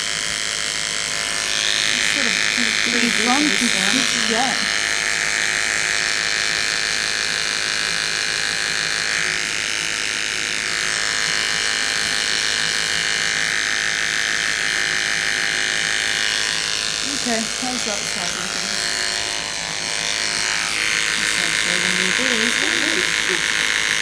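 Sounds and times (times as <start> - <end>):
electric hair clippers humming: 0.0 - 24.0.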